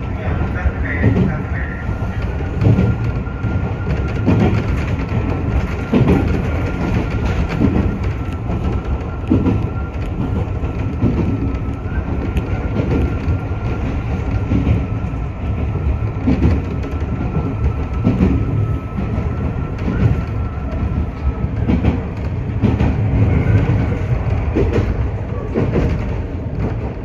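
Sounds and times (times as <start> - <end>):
train rumble from inside: 0.0 - 27.0
wheels clacking over rail joints: 0.0 - 27.0.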